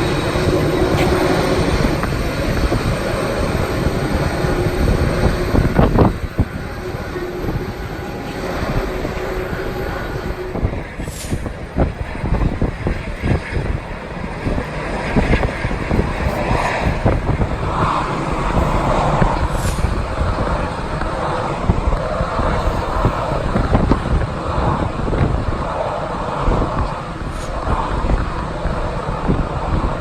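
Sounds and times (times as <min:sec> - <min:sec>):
jet engines rushing: 0:00.0 - 0:30.0
wind buffeting microphone: 0:00.0 - 0:30.0.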